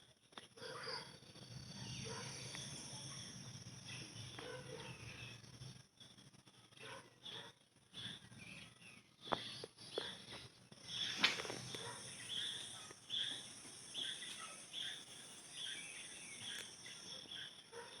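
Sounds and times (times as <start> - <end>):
insects trilling: 0.5 - 18.0
insect chirping calls: 0.8 - 6.4, 7.2 - 17.9.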